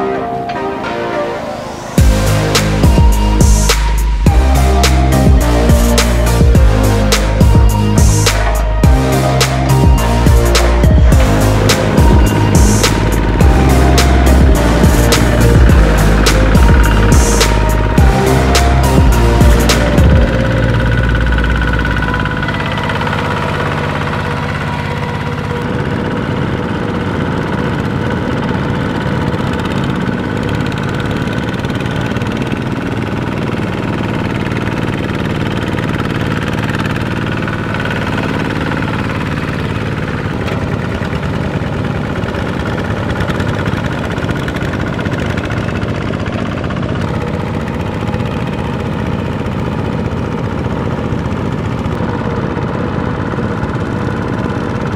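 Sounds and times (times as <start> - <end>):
diesel tractor engines chugging: 0.0 - 54.9.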